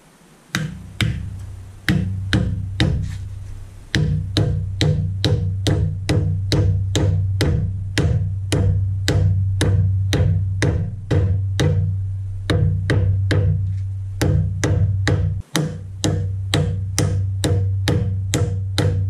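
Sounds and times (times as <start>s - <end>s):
knocking beat: 0.5s - 19.0s
low bass note: 0.8s - 18.7s.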